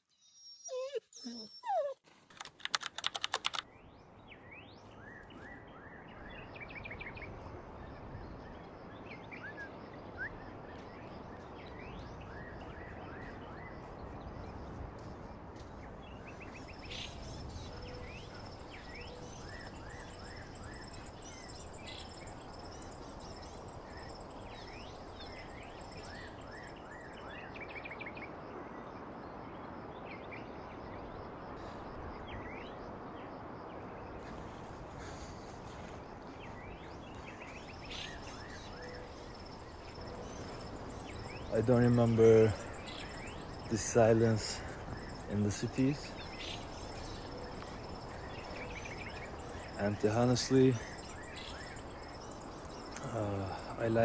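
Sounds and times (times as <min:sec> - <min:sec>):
small birds chirping: 0:00.0 - 0:28.4, 0:29.9 - 0:54.0.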